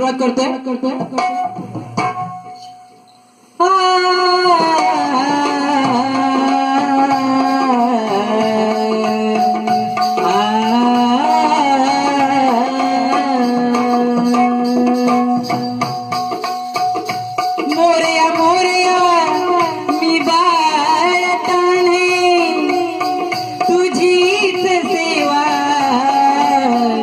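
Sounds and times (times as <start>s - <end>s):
drum strokes: 0.0s - 27.0s.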